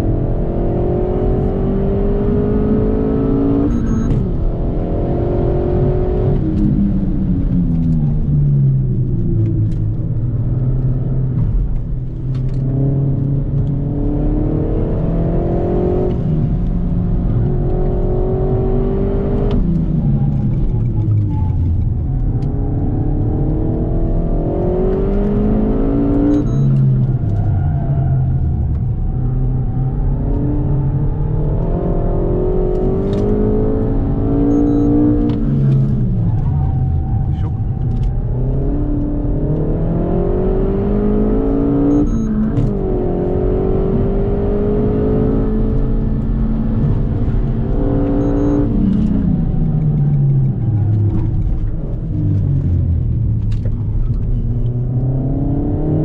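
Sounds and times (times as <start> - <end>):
car engine revving: 0.0 - 56.0
tyre and road rumble: 5.8 - 56.0.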